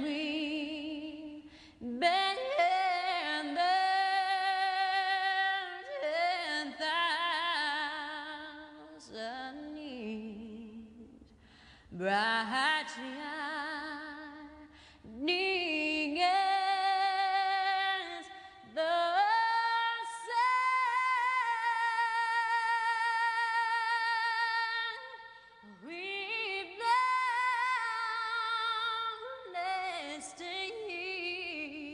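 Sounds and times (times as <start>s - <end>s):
woman singing unaccompanied: 0.0s - 11.2s, 12.0s - 31.9s.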